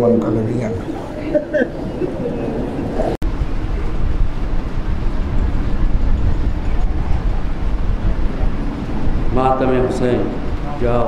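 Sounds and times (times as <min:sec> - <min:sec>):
dense crowd rumble: 0:00.0 - 0:11.0.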